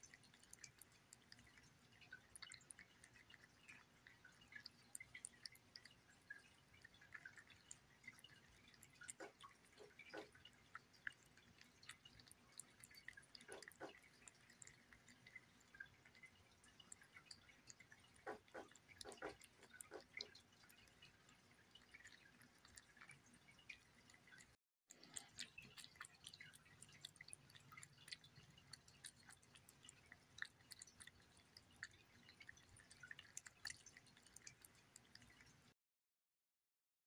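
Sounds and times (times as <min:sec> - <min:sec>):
kitten licking and chewing food: 0:00.0 - 0:35.8.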